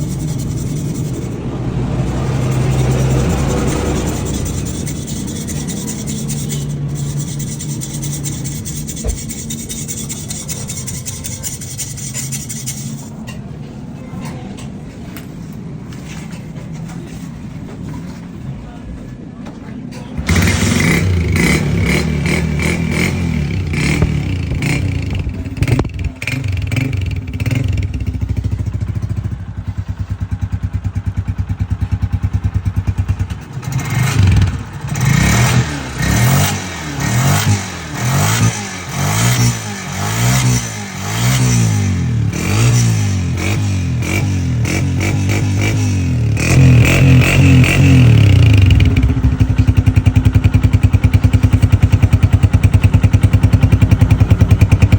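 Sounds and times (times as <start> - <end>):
motorcycle engine revving: 0.0 - 13.3, 20.2 - 54.9.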